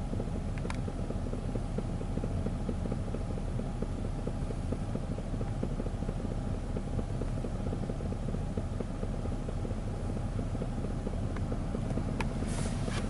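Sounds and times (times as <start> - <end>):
car engine idling: 0.0 - 13.0
engine ticking: 0.0 - 13.0.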